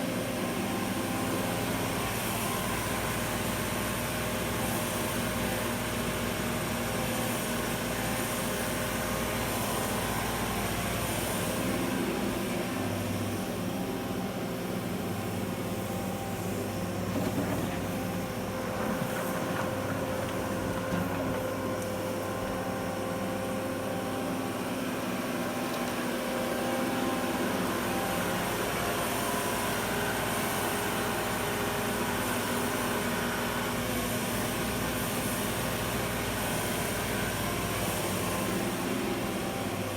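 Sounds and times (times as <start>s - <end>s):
excavator diesel engine running: 0.3s - 39.9s.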